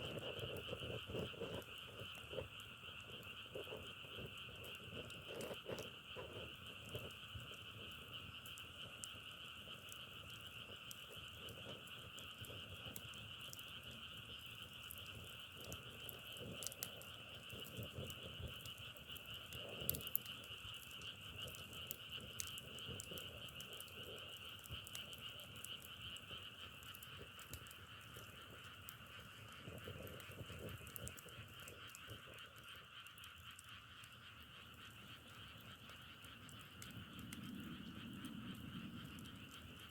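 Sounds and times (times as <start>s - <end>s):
wood fire crackling: 0.0s - 39.9s
frogs calling: 0.2s - 39.9s.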